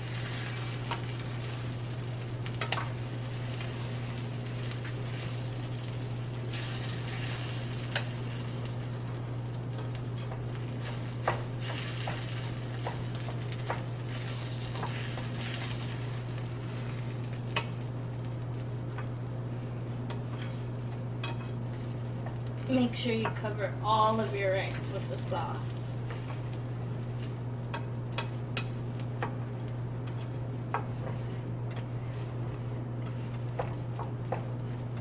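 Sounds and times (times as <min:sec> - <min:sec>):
sauce sizzling in hot oil: 0:00.0 - 0:31.0
steady low hum: 0:00.0 - 0:35.0.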